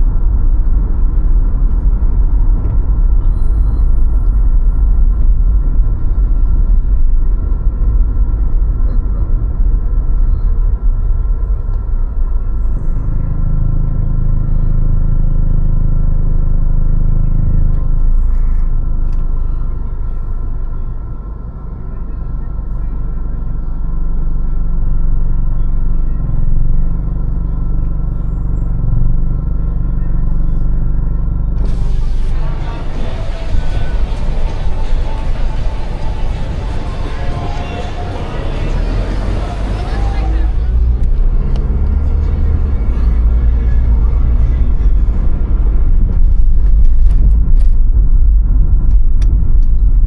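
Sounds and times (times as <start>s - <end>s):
car road and engine rumble: 0.0s - 50.0s
deeper hum: 0.0s - 50.0s.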